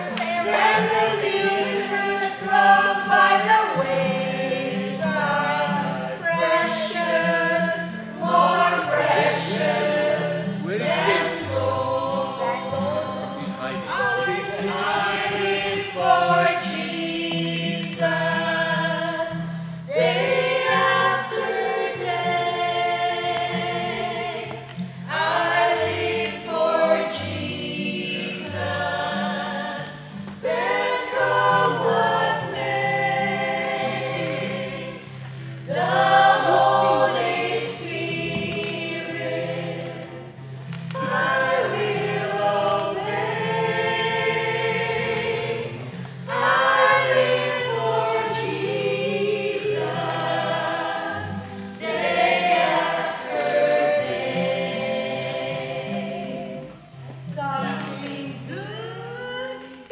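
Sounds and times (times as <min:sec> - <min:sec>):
group of voices singing: 0:00.0 - 0:59.9.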